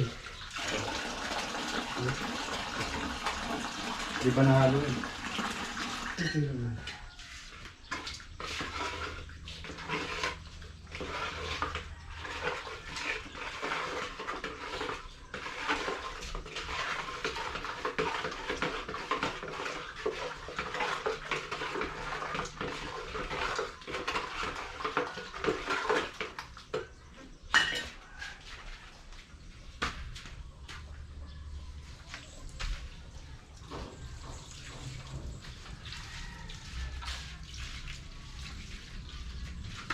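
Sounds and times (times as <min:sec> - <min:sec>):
shovels scraping concrete mix: 0:00.0 - 0:30.9, 0:31.9 - 0:39.9.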